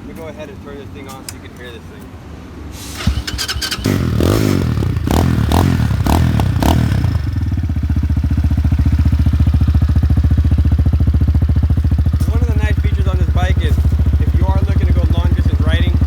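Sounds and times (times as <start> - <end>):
motorcycle engine revving and idling: 3.0 - 16.0.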